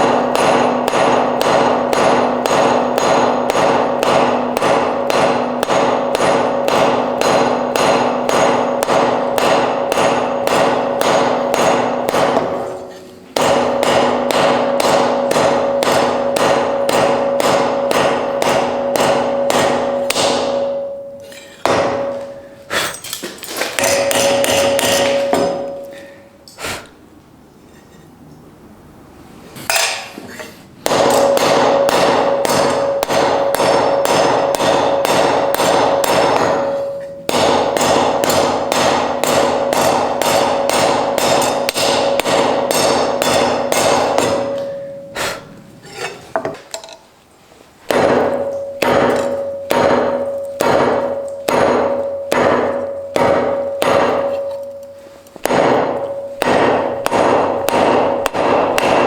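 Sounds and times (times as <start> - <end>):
hammer striking hot iron on anvil: 0.0 - 22.7, 23.6 - 26.2, 29.7 - 30.2, 30.8 - 45.4, 47.9 - 59.0.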